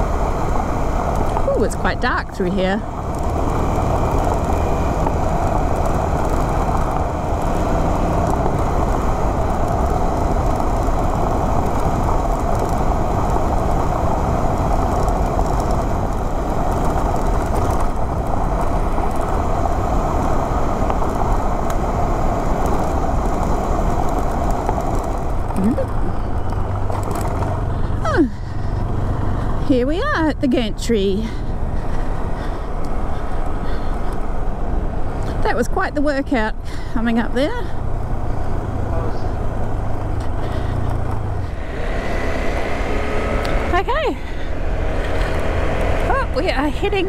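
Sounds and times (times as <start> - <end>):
motorcycle engine running: 0.0 - 47.0
road noise: 0.0 - 47.0
wind noise: 0.0 - 47.0.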